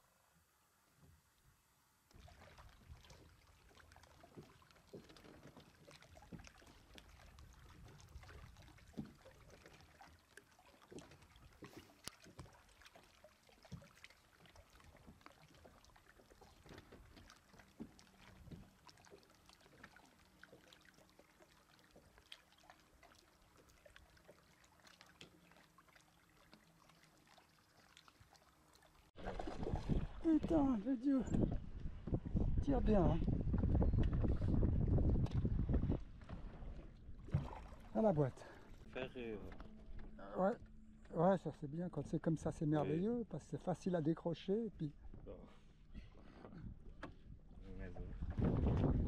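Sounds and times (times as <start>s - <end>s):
water lapping: 2.1s - 49.0s.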